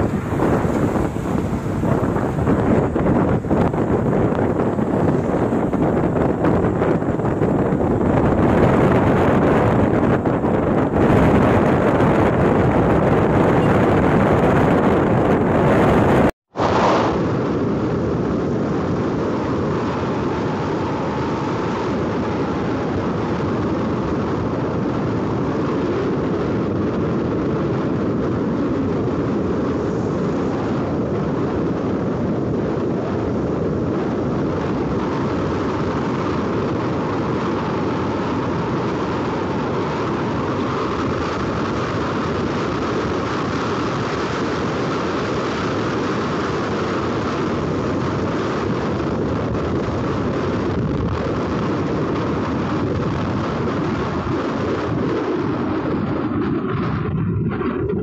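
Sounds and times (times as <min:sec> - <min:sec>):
motorbike engine and tyre noise: 0:00.0 - 0:58.0
wind over microphone: 0:00.0 - 0:58.0.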